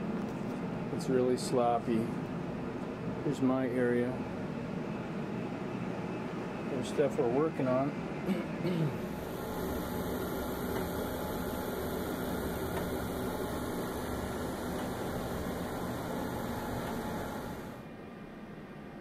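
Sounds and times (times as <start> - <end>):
cooling fans and ventilation hum: 0.0 - 19.0.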